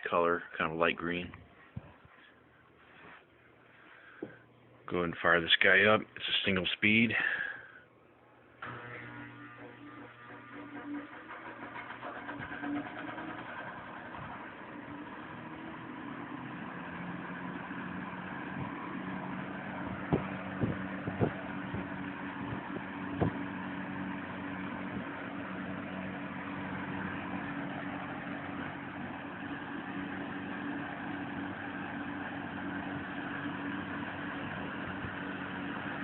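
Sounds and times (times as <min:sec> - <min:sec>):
box fan running: 0:00.0 - 0:36.0.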